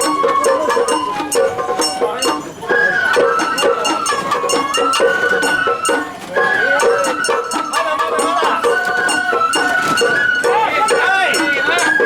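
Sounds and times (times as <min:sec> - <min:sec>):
bamboo flute playing: 0:00.0 - 0:12.0
rapid drum strikes: 0:00.0 - 0:12.0.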